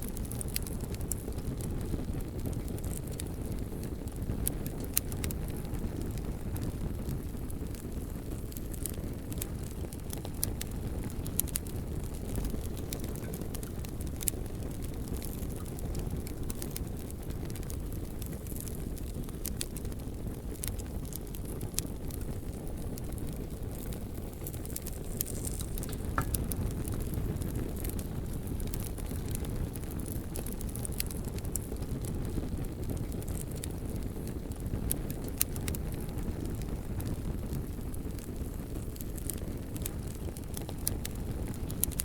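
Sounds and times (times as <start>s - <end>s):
bonfire flames rumbling: 0.0s - 42.0s
burning logs crackling and popping: 0.0s - 42.0s.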